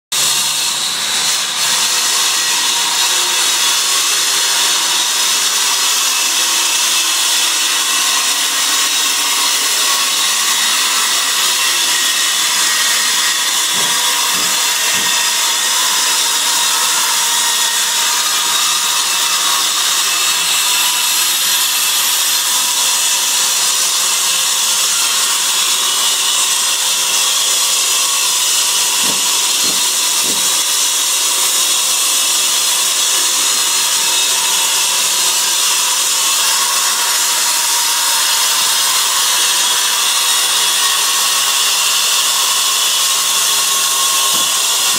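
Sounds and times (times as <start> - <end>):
wall chaser grinding masonry: 0.1 - 44.9.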